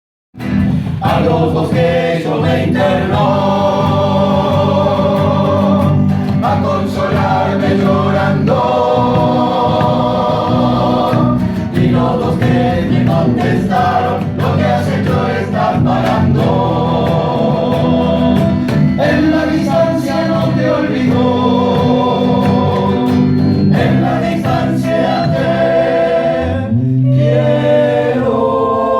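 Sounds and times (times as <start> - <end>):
choir singing in harmony: 0.8 - 28.9.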